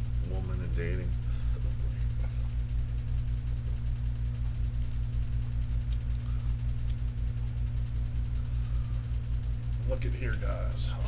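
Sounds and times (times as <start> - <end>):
machine humming with throb: 0.0 - 11.0.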